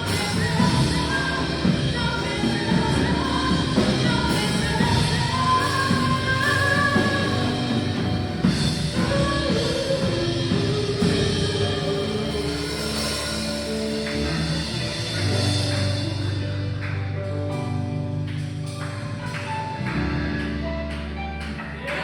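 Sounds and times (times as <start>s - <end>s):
worship band playing: 0.0s - 22.0s.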